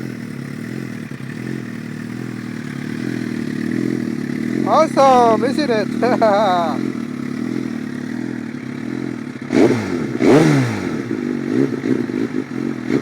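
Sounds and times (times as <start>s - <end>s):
engine revving: 0.0s - 13.0s
motorcycle engine idling: 0.0s - 13.0s.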